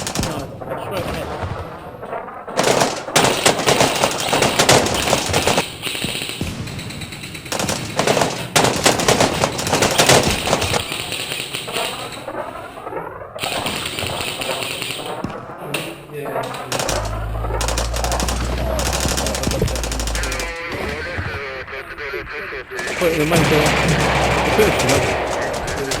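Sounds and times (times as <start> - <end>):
airsoft guns full-auto bursts: 2.5 - 26.0.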